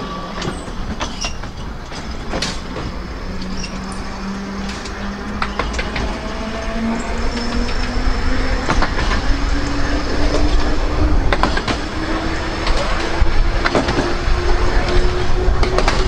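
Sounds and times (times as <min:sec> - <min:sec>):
tram motor whine: 0:00.0 - 0:16.0
wheels clicking on track: 0:00.0 - 0:16.0.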